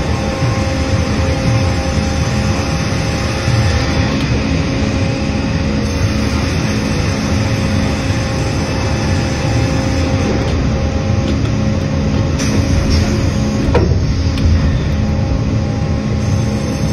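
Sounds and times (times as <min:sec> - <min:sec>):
sawmill machinery drone: 0:00.0 - 0:16.9.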